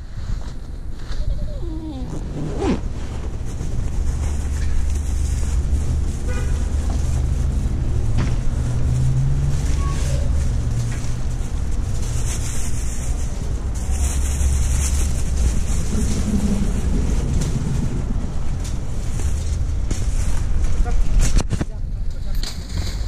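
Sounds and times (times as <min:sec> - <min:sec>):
vehicle engine running: 0:02.2 - 0:21.3.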